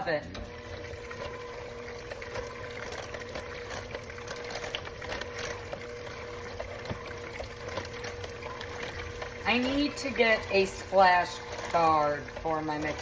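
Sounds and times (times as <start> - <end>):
electric mixer motor whining: 0.0 - 13.0.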